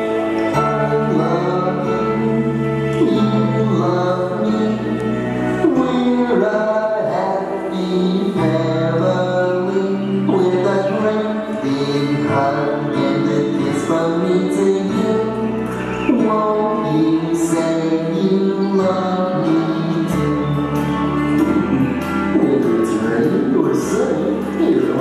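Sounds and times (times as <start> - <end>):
bass notes: 0.0 - 25.0
person singing: 0.0 - 25.0.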